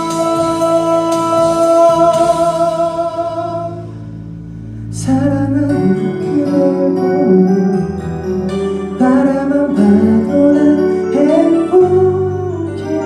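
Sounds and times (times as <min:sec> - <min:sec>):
man singing into microphone: 0:00.0 - 0:04.0, 0:04.9 - 0:08.0, 0:09.0 - 0:13.0.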